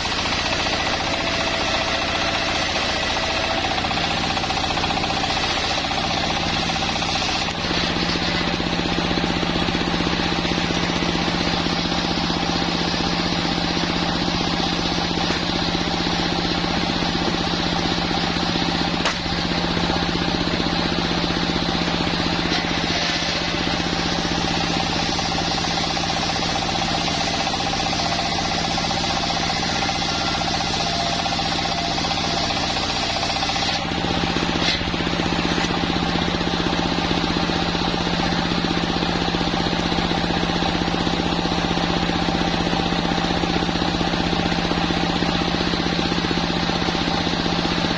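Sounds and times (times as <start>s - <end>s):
sawmill machine sawing log: 0.0s - 47.9s.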